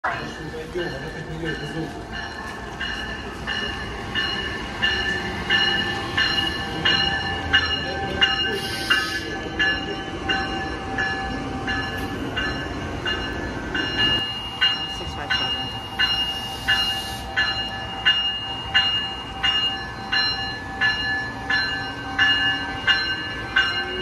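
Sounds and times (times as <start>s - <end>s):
locomotive bell ringing: 0.0s - 24.0s
locomotive whine: 0.0s - 24.0s
train rumble: 0.0s - 24.0s.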